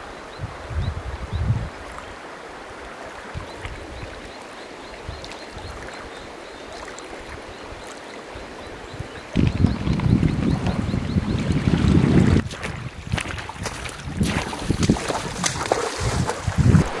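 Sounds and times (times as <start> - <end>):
river water running: 0.0 - 17.0.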